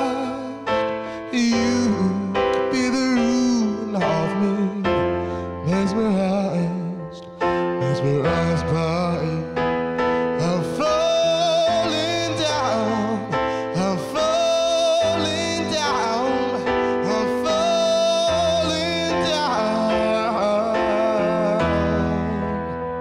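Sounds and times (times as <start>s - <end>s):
keyboard chords: 0.0s - 23.0s
person singing pop ballad: 0.0s - 23.0s.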